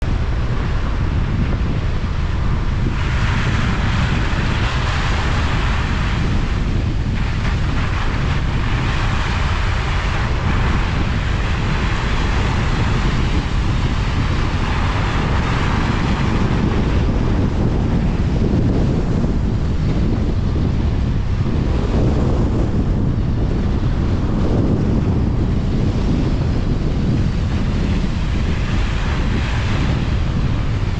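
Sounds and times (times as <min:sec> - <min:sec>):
tyre and wind noise: 0:00.0 - 0:30.9.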